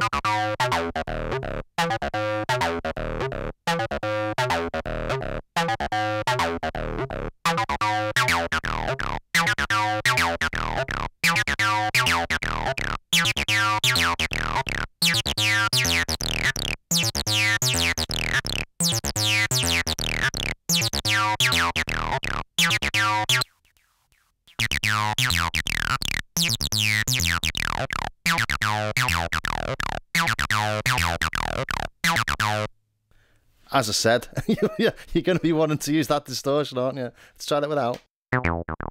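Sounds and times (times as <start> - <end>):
distorted acid synth bassline: 0.4 - 23.5, 24.5 - 32.7.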